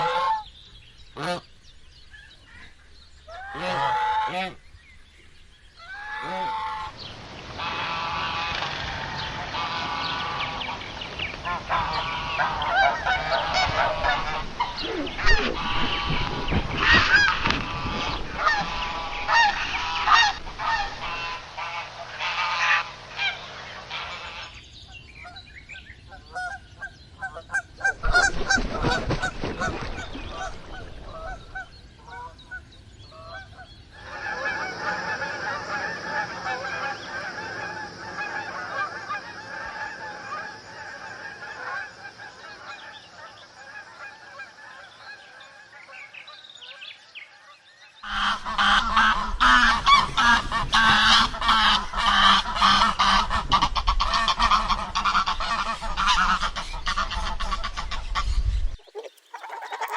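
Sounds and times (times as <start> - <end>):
geese honking: 0.0 - 0.5, 1.2 - 1.5, 3.3 - 4.6, 5.8 - 24.6, 26.1 - 45.9, 48.0 - 59.9.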